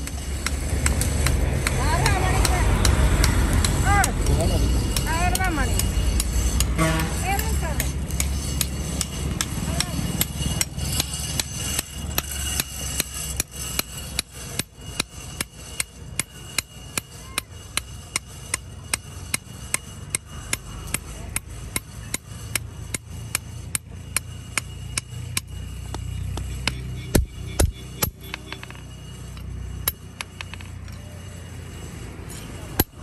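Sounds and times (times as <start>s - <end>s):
hammer striking steel on anvil: 0.0s - 33.0s.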